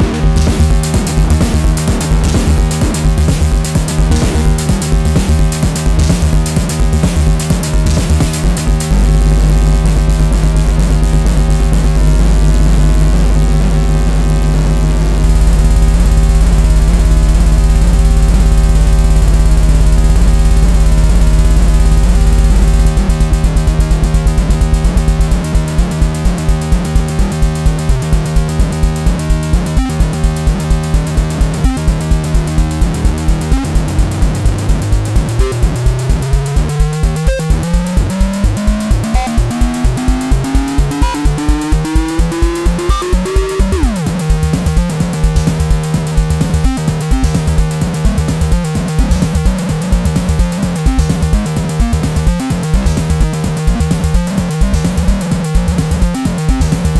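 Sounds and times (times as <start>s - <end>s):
drum machine beat: 0.0s - 14.3s, 15.0s - 56.9s
rising synth line: 0.0s - 56.9s.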